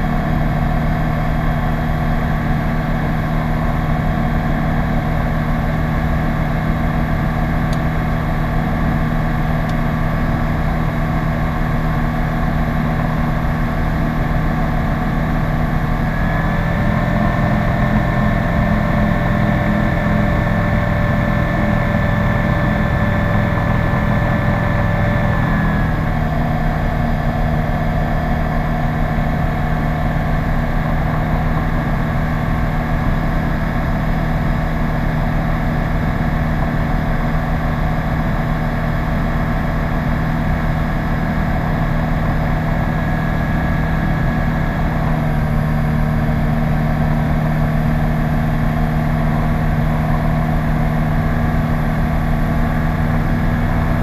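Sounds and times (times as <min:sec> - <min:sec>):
light aircraft engine and propeller drone: 0:00.0 - 0:54.0.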